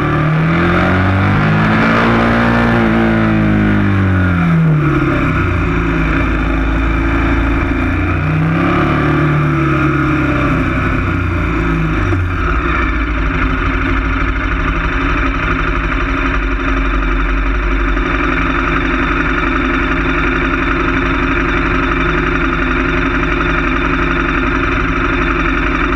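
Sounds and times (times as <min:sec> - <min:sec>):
motorcycle engine slowing to idle: 0:00.0 - 0:25.9.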